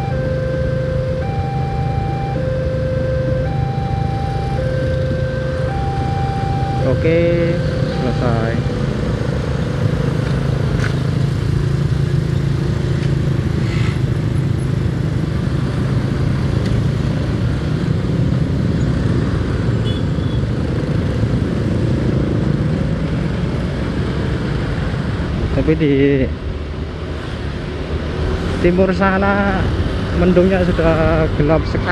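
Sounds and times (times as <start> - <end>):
road and traffic noise: 0.0 - 31.9.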